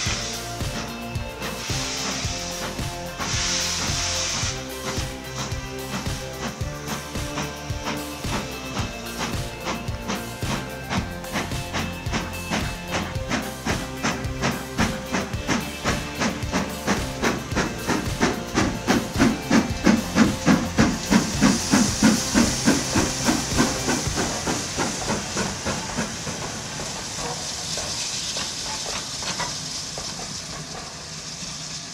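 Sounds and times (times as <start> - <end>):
steam hiss: 0.0 - 31.9
steam locomotive exhaust beats: 0.0 - 31.9
train coaches rolling: 0.0 - 31.9.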